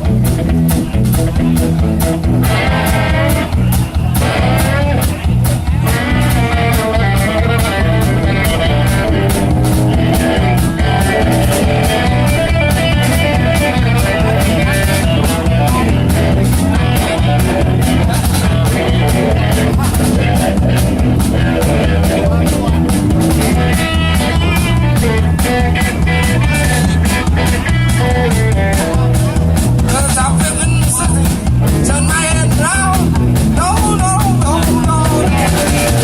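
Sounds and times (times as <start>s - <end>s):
drum kit beat: 0.0s - 36.0s
electric guitar: 0.0s - 36.0s.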